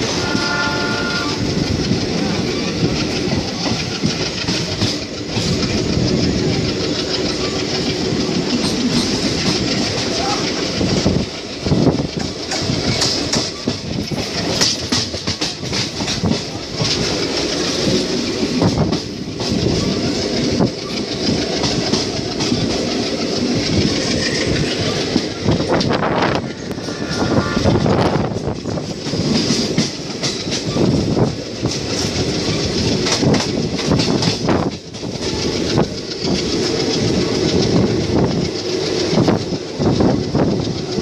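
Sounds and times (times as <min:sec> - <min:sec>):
train coach rolling noise: 0:00.0 - 0:41.0
wheels clicking over rail joints: 0:00.0 - 0:41.0.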